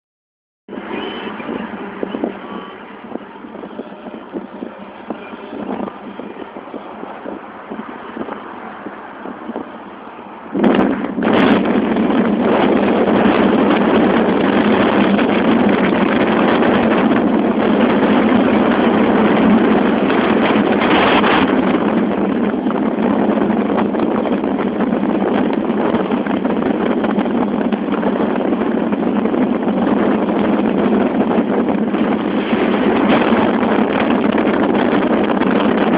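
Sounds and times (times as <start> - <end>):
wind and road noise: 0.7 - 35.9
wind buffeting microphone: 0.7 - 35.9.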